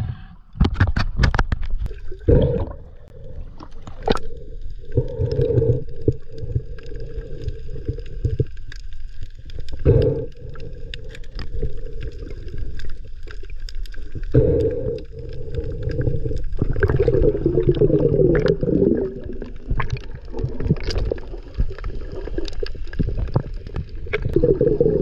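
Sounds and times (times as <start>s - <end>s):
underwater gurgling and rushing: 0.6s - 25.0s.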